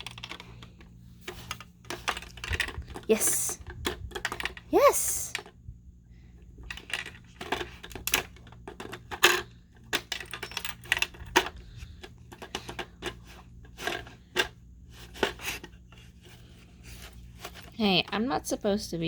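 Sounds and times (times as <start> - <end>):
treat puzzle box clicking and clattering: 0.0 - 5.5, 6.6 - 17.8.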